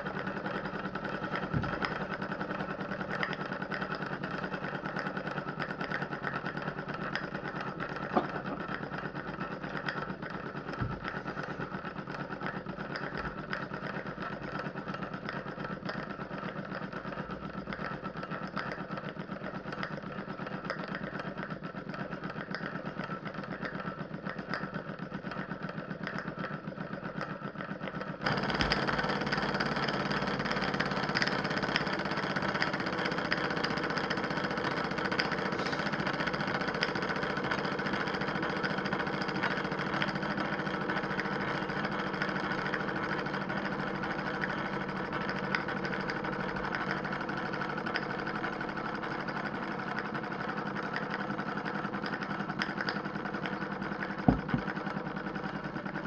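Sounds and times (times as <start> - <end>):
model steam engine running: 0.0 - 56.0.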